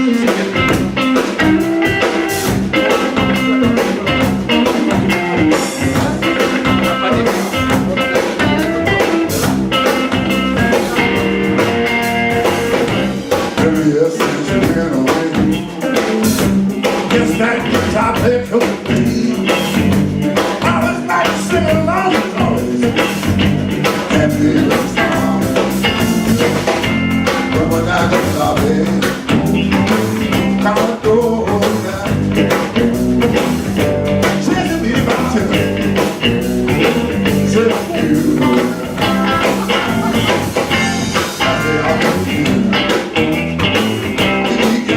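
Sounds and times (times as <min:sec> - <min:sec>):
band playing blues-rock: 0:00.0 - 0:44.9
electric guitar: 0:00.0 - 0:44.9.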